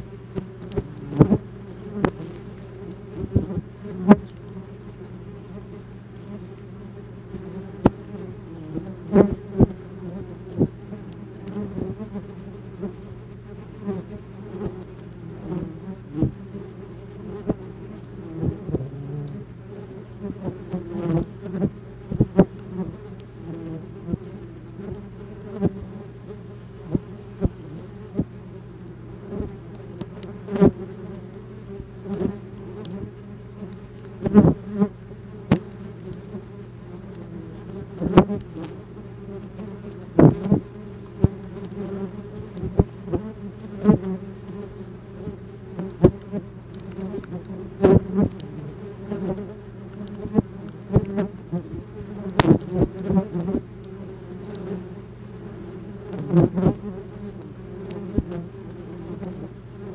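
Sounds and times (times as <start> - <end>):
wasps buzzing: 0.0 - 59.9
wasps tapping on camera: 0.3 - 6.7, 7.3 - 13.0, 13.8 - 16.4, 17.4 - 19.6, 20.3 - 26.0, 26.8 - 28.3, 29.3 - 59.9.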